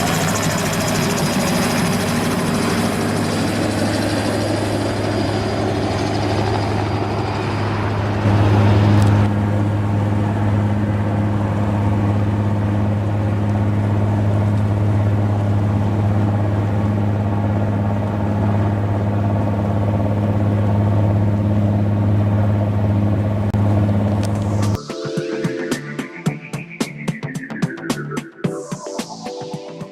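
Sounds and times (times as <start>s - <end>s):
helicopter rotors and turbine hum: 0.0s - 29.9s.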